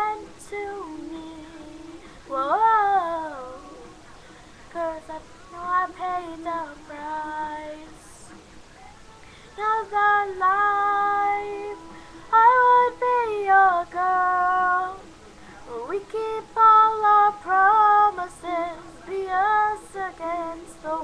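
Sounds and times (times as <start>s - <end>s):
young female voice singing: 0.0s - 8.4s, 9.6s - 15.0s, 15.6s - 21.0s.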